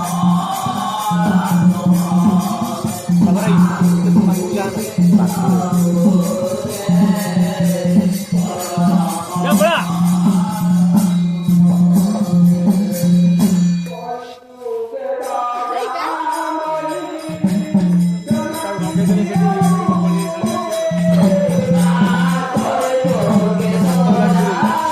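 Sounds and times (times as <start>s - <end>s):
person singing: 0.0s - 13.2s, 13.9s - 24.9s.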